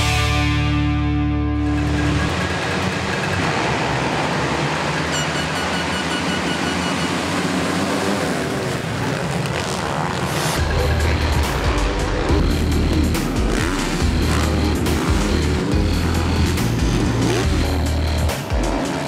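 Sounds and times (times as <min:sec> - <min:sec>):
motocross bikes revving: 0:01.6 - 0:19.0.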